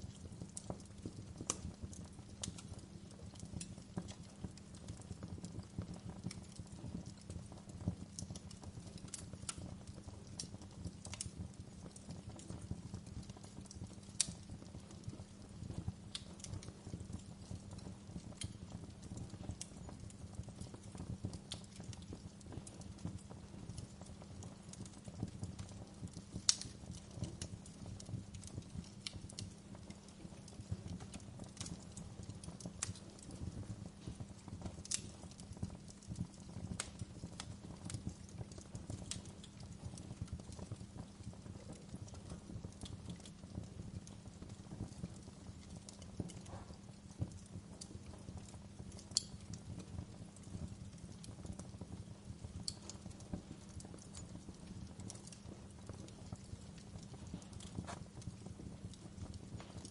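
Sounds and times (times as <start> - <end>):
low fire rumble: 0.0 - 59.9
wood fire crackling: 0.0 - 59.9.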